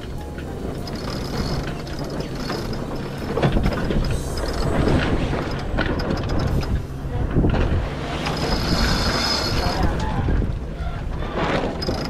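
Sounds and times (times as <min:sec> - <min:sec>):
rush of wind and water: 0:00.0 - 0:12.0
sailboat winch clicking: 0:00.0 - 0:12.0.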